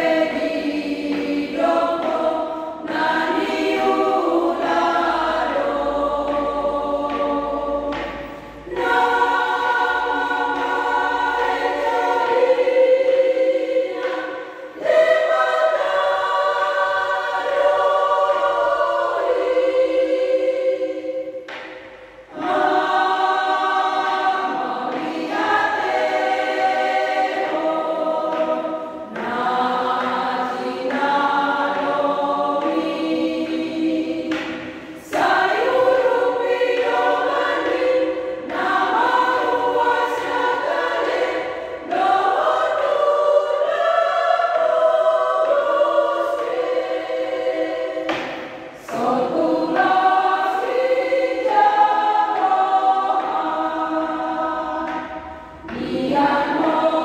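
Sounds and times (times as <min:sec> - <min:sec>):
women's choir singing a hymn: 0:00.0 - 0:57.0.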